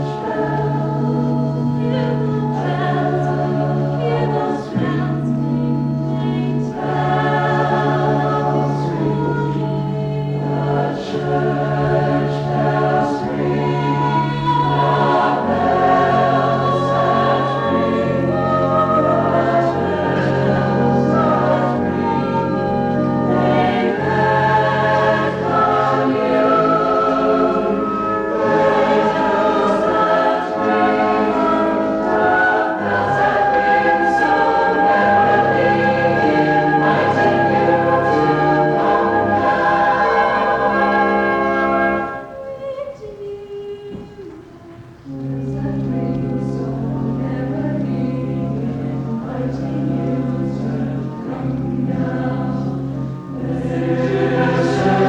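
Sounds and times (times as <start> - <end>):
choir singing sustained chords: 0.0 - 43.2, 45.0 - 55.0.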